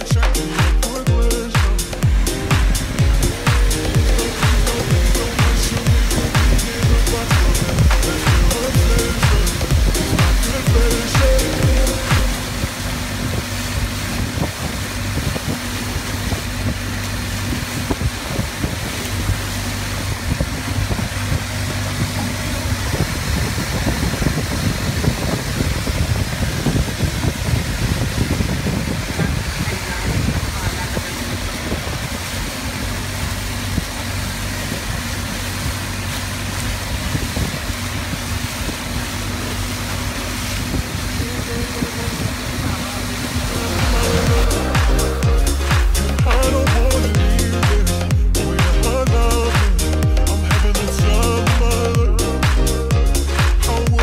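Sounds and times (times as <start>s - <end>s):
speedboat engine running: 0.0s - 54.0s
water rushing along hull: 0.0s - 54.0s
wind on microphone: 1.9s - 50.7s.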